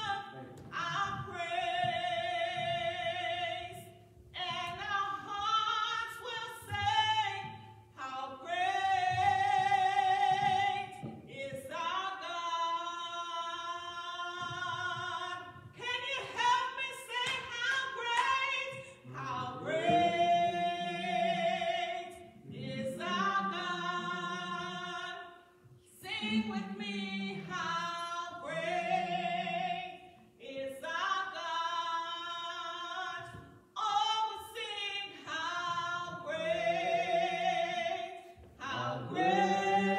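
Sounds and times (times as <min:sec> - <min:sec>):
woman singing gospel: 0:00.0 - 0:39.9.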